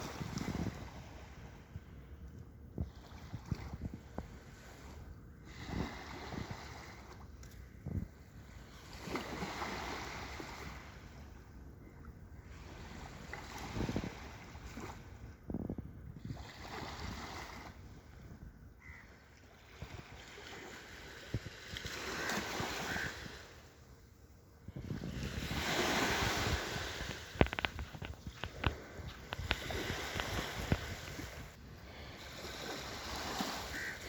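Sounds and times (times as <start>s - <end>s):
rushing wind and water: 0.0s - 34.0s.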